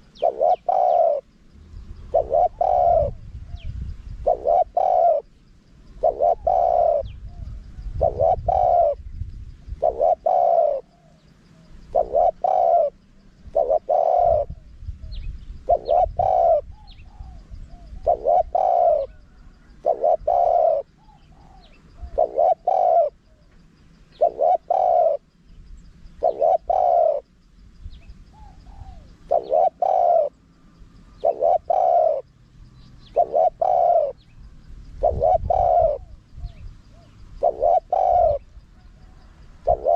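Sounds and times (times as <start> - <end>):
dove cooing: 0.0 - 25.4, 26.1 - 27.4, 28.0 - 30.4, 31.0 - 39.9.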